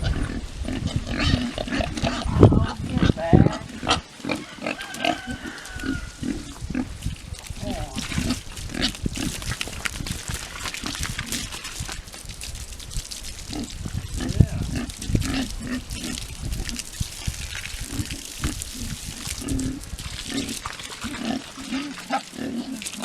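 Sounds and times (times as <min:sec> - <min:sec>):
pigs grunting: 0:00.0 - 0:12.2, 0:13.2 - 0:23.0.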